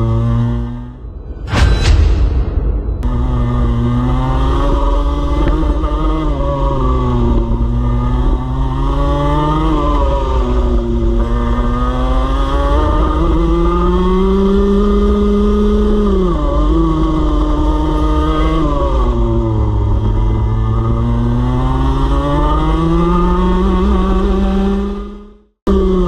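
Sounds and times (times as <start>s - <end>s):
kart two-stroke engine revving: 0.0s - 1.0s, 3.0s - 26.0s.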